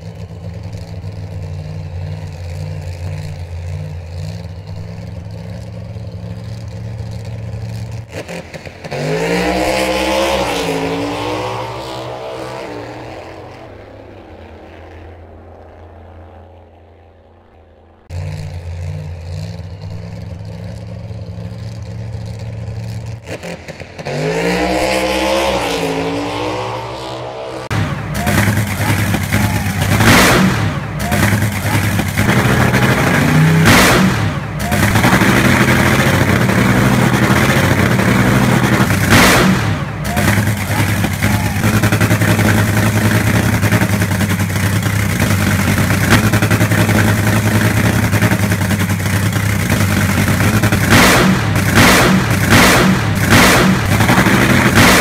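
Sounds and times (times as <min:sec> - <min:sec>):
engine drone: 0:00.0 - 0:55.0
racing engine revving: 0:00.0 - 0:55.0.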